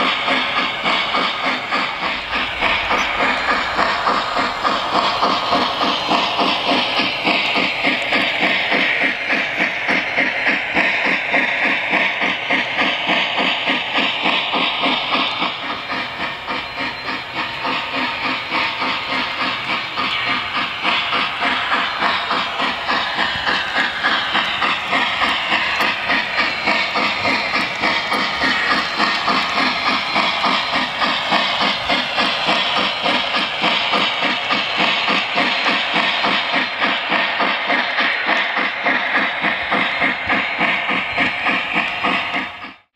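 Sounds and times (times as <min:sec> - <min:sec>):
model steam locomotive chuffing: 0:00.0 - 0:42.9.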